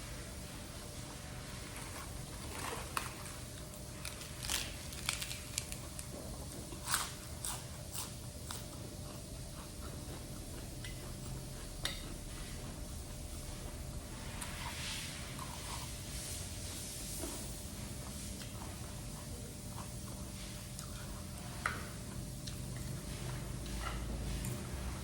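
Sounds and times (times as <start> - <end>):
person chewing food: 0.8 - 25.0.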